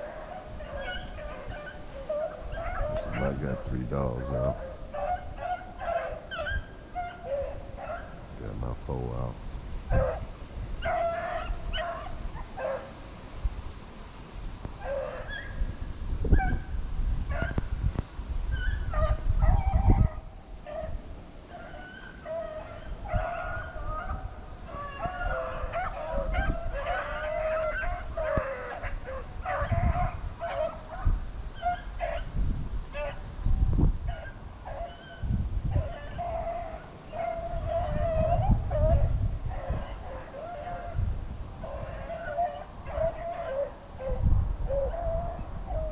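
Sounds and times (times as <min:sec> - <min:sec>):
dogs yipping and baying: 0:00.0 - 0:03.6, 0:04.2 - 0:08.2, 0:09.9 - 0:13.0, 0:14.8 - 0:15.6, 0:17.3 - 0:17.6, 0:18.5 - 0:32.3, 0:32.9 - 0:33.2, 0:34.1 - 0:41.0, 0:41.6 - 0:45.9.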